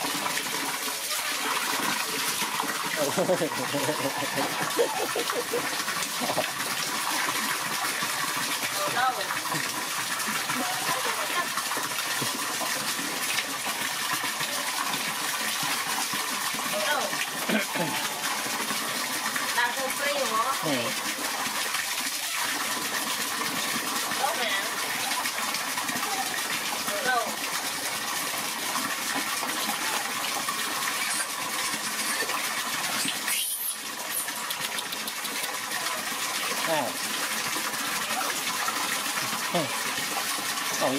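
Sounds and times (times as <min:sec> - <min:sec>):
water pouring into metal basin: 0:00.0 - 0:40.9.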